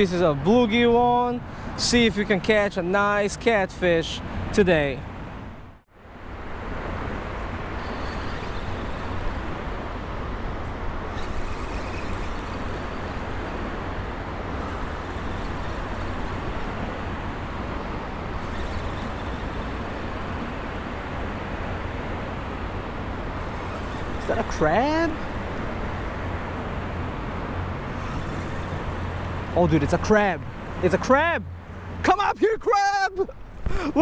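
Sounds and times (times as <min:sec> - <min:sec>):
road traffic hum: 0:00.0 - 0:34.0.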